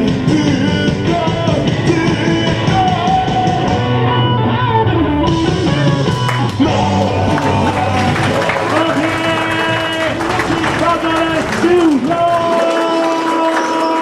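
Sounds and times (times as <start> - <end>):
rock song with guitar and singing: 0.0 - 12.6.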